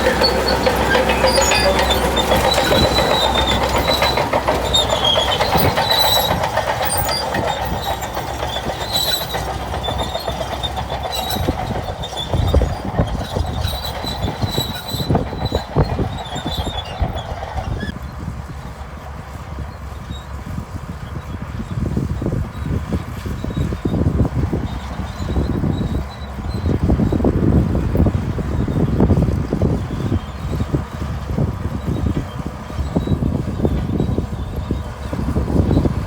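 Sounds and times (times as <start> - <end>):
bulldozer engine rumble: 0.0 - 36.0
steel tracks squealing and clanking: 0.0 - 36.0.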